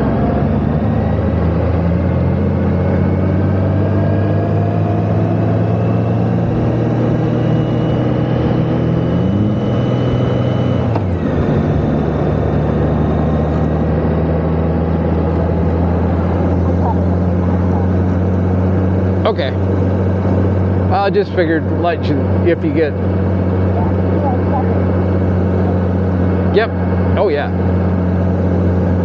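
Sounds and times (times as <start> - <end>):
motorcycle engine under load: 0.0 - 29.0
wind and road noise: 0.0 - 29.0.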